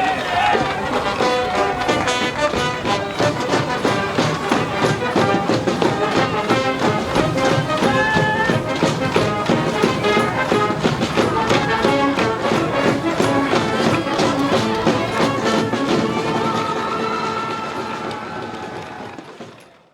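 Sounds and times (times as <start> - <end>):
steady drum beat: 0.0 - 19.0
brass band melody: 0.0 - 19.2.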